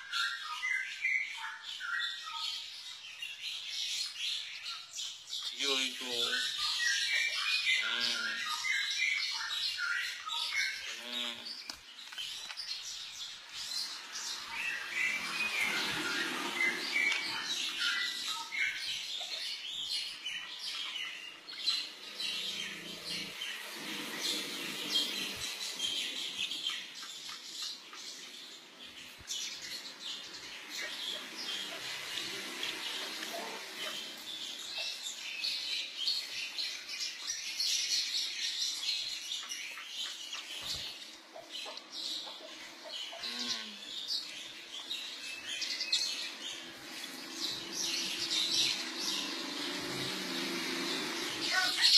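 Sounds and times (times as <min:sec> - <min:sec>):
lovebirds chirping: 0:00.0 - 0:51.9.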